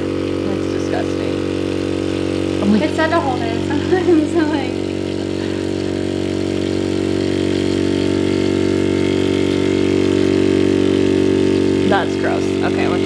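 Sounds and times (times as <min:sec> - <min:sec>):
brush cleaner motor humming: 0:00.0 - 0:13.0.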